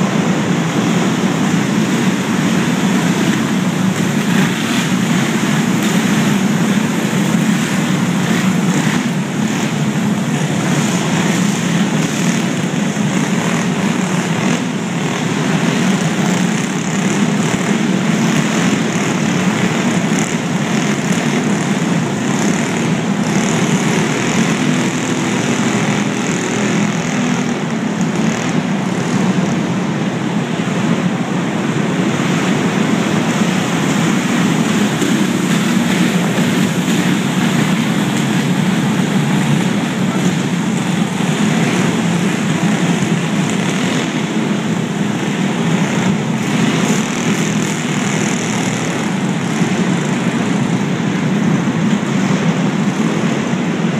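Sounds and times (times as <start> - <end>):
go-kart engines buzzing: 0.0 - 53.9.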